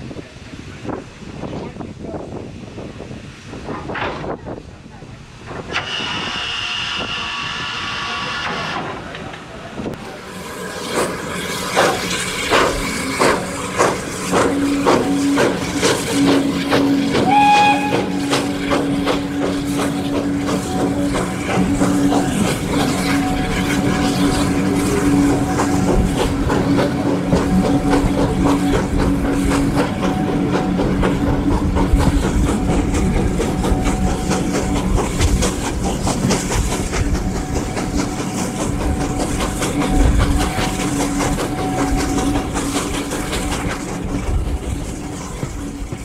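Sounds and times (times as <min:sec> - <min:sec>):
train wheels clattering over rails: 0:08.1 - 0:46.0.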